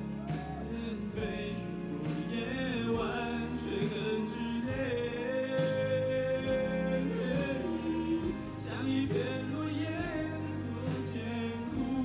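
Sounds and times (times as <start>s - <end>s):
instrumental accompaniment: 0.0s - 12.0s
man singing into a microphone: 0.2s - 12.0s.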